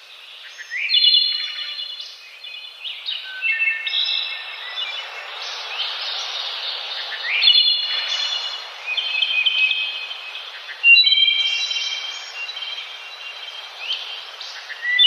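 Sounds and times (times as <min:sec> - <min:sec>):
birds singing and calling: 0:00.0 - 0:15.0
outdoor background hiss: 0:00.0 - 0:15.0.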